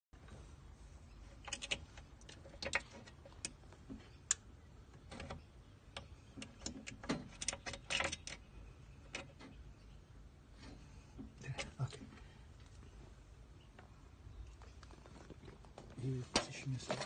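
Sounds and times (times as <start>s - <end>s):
faint background hum: 0.2s - 17.0s.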